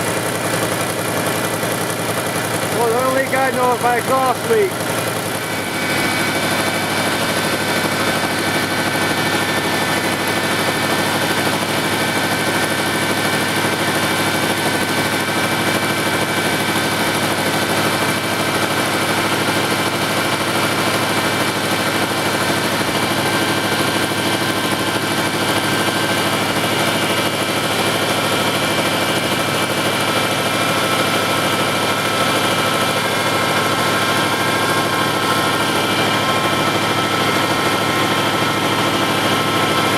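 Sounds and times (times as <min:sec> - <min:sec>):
power steering pump whining: 0:00.0 - 0:39.9
truck engine idling: 0:00.0 - 0:39.9.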